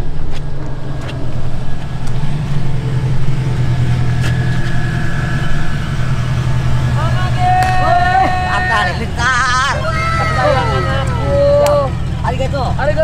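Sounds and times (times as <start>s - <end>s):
car engine rumbling low: 0.0s - 13.0s.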